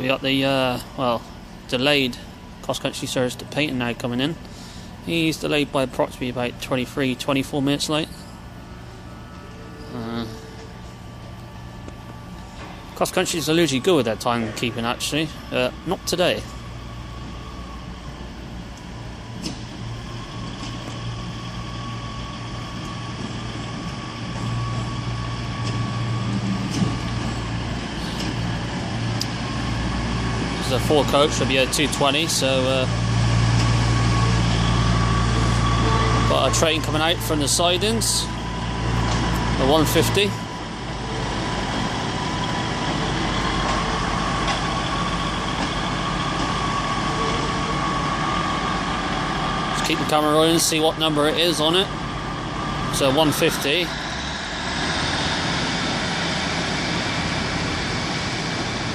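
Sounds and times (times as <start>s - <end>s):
diesel train engines humming: 0.0s - 58.9s
faint steady whine: 0.0s - 58.9s.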